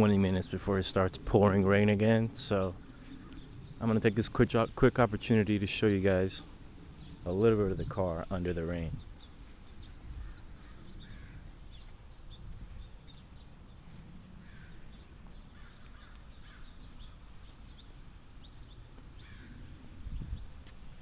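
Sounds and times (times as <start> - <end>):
birds calling: 0.0 - 21.0
steady low rumble: 0.0 - 21.0.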